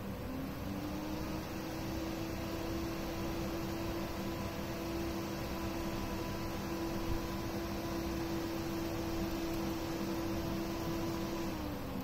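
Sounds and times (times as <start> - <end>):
computer fans humming: 0.0 - 12.0
fan motor spinning up: 0.0 - 12.0.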